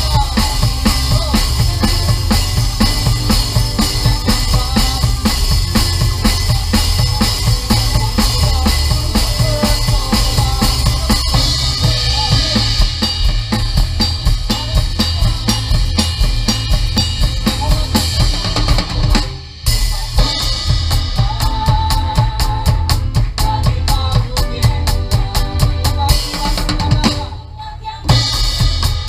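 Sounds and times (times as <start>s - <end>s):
drum kit with band: 0.0s - 29.0s.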